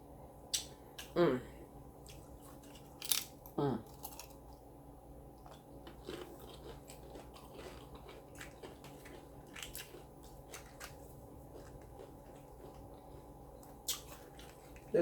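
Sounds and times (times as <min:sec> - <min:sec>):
person chewing crunchy food: 0:02.0 - 0:04.6, 0:05.3 - 0:15.0.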